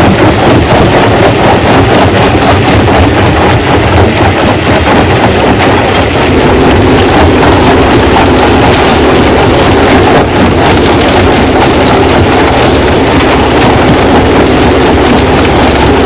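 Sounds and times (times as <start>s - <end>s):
rock crushing machine: 0.0s - 16.0s.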